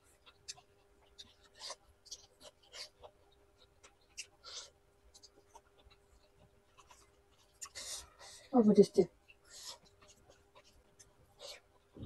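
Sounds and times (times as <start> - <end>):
faint steady hum: 0.0 - 12.0
mouth clicks and smacks chewing: 0.1 - 8.2, 9.1 - 12.0.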